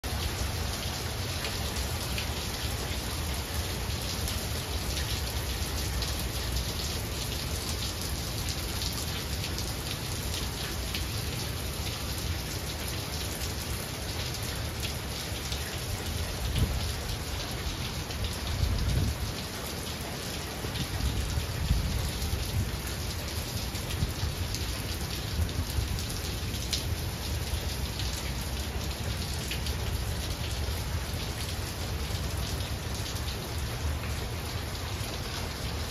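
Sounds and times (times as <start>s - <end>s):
rain pattering on pavement: 0.0s - 35.9s.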